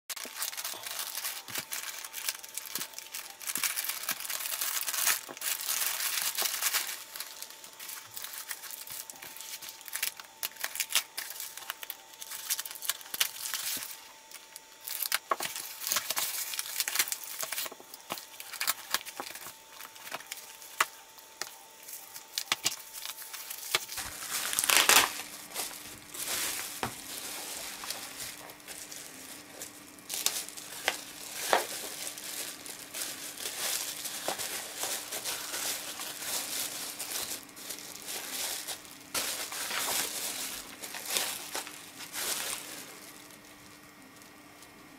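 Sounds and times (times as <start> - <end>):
bubble wrap rustling: 0.1 - 44.9
plastic packaging crinkling and tearing: 0.1 - 44.9.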